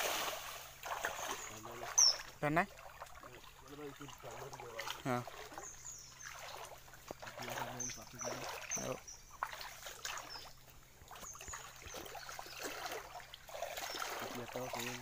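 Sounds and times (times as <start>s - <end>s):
faint trickle of flowing water: 0.0s - 15.0s
feet sloshing through shallow water: 0.0s - 15.0s.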